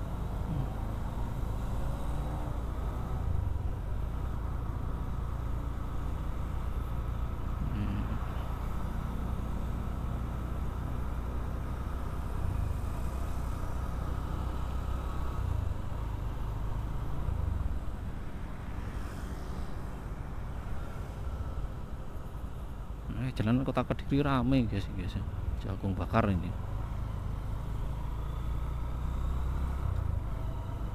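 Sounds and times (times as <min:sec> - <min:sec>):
road and wind noise: 0:00.0 - 0:30.9.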